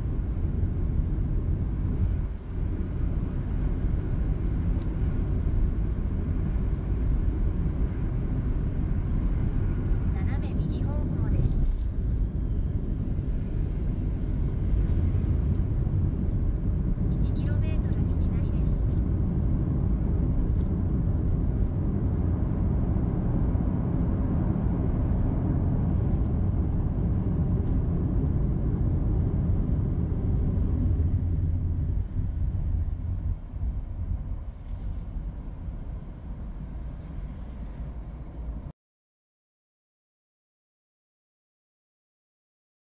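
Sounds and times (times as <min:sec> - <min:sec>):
car road and engine rumble: 0:00.0 - 0:38.7.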